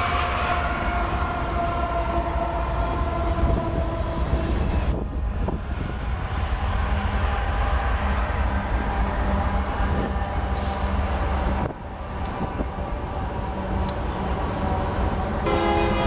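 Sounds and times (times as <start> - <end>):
freight locomotives passing: 0.0 - 16.0.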